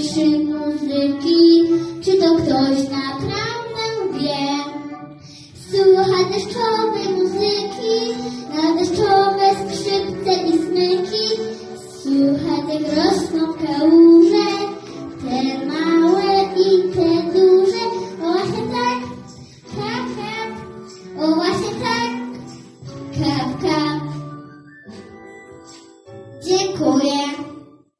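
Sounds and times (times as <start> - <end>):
girl singing: 0.0 - 22.4, 23.1 - 24.2, 26.4 - 27.6
recorded backing track: 0.0 - 27.9.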